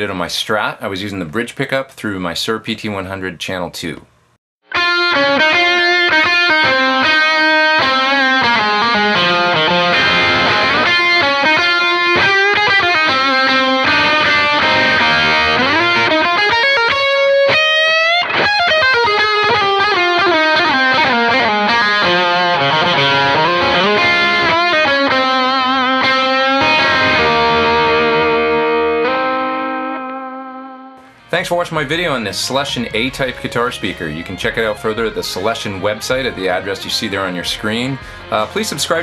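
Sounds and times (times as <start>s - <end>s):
overdriven electric guitar solo: 4.6s - 31.3s, 32.0s - 39.0s.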